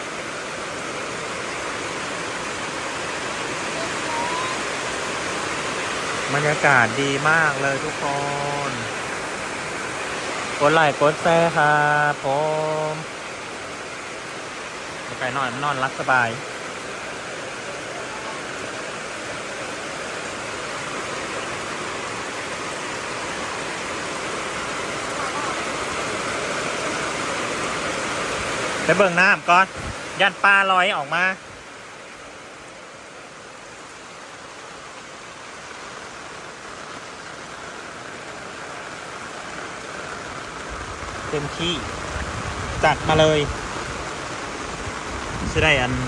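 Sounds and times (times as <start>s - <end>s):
heavy rain: 0.0s - 46.0s
running rainwater: 0.0s - 46.0s.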